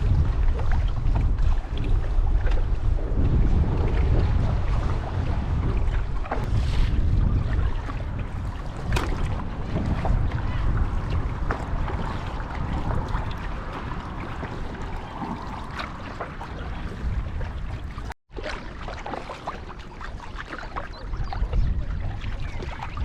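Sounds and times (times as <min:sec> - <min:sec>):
wind on microphone: 0:00.0 - 0:18.2, 0:19.4 - 0:23.0
water splashing around paddle: 0:00.0 - 0:23.0.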